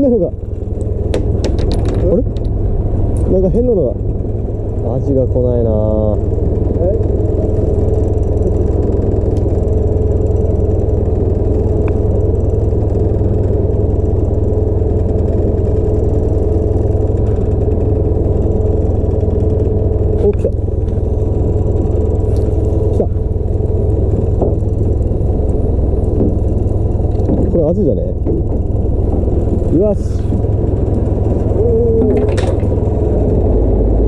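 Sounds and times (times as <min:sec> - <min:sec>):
boat engine idling: 0:00.0 - 0:34.0.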